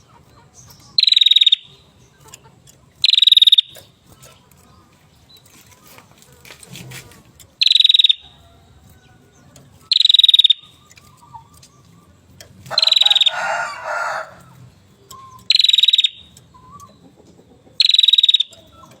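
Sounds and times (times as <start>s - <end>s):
bird rattling trills: 0.2s - 16.9s, 17.8s - 19.0s.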